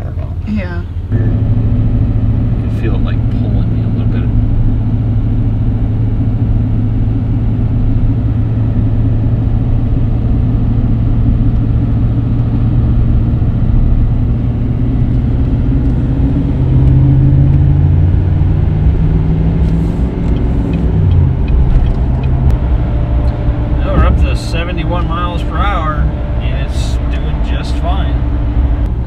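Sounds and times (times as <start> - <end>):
diesel engine drone: 0.0 - 29.0
road rumble: 0.0 - 29.0.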